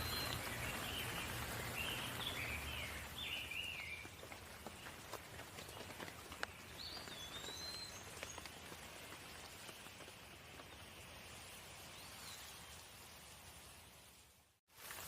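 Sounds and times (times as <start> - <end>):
light rain: 0.0 - 15.0.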